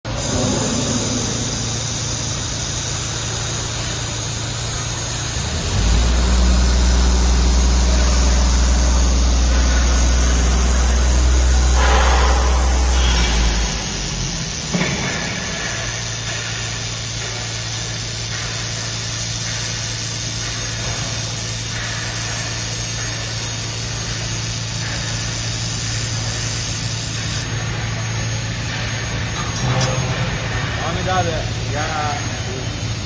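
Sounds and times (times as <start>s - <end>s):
welding machine engine humming: 0.1s - 33.0s.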